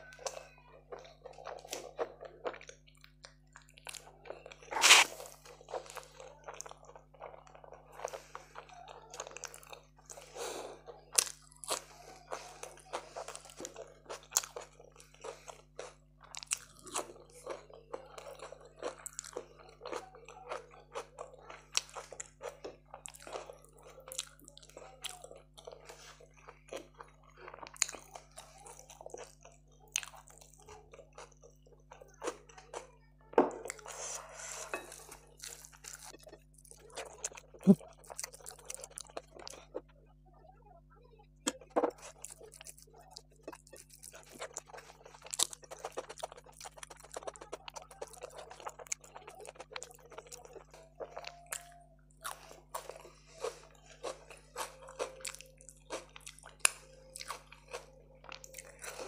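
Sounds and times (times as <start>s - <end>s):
food crunching: 0.0s - 40.2s, 41.4s - 59.0s
person chewing food: 0.0s - 40.3s, 41.4s - 59.0s.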